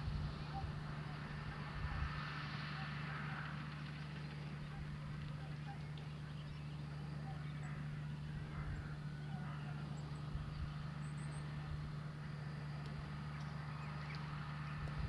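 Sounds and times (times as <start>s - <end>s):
distant tractor engine drone: 0.0s - 15.0s.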